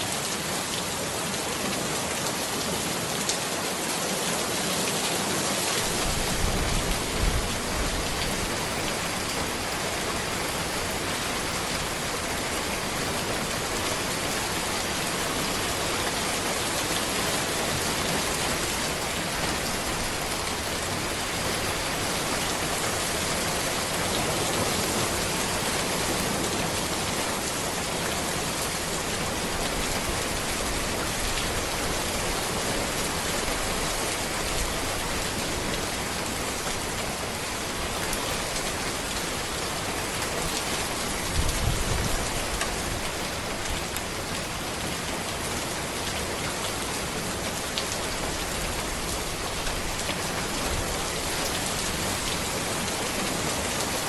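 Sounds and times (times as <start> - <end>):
rain falling on a road: 0.0 - 54.0.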